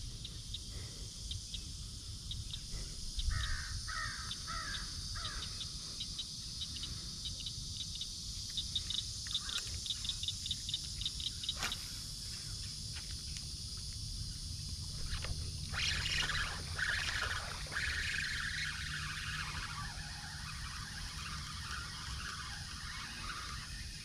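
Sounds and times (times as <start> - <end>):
insect hiss: 0.0 - 24.0.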